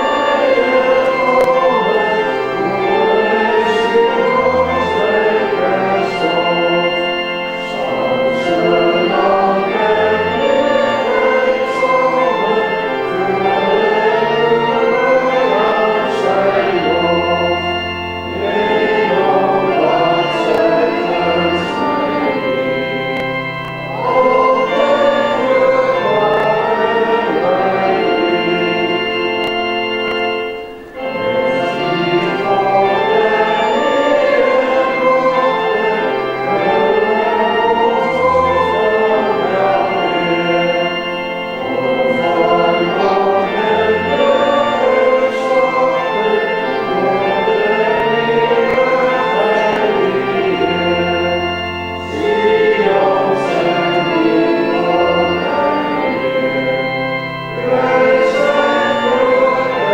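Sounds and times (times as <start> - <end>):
congregation singing a hymn: 0.0 - 59.9
organ holding low notes: 0.0 - 59.9.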